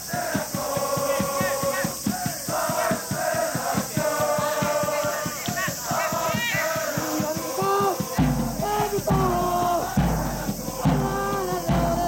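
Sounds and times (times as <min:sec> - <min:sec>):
crowd chanting in unison: 0:00.0 - 0:12.0
fast steady beat: 0:00.0 - 0:12.0.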